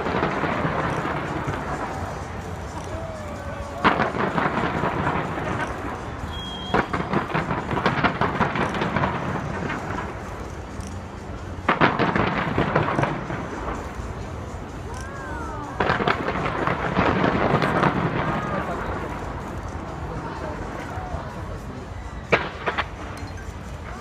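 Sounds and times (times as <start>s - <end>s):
fireworks bangs and crackle: 0.0s - 24.0s.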